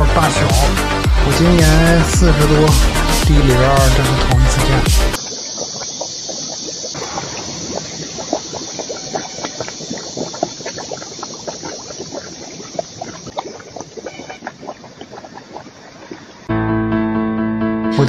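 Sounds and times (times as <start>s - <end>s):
gas bubbles popping in water: 0.0s - 16.5s.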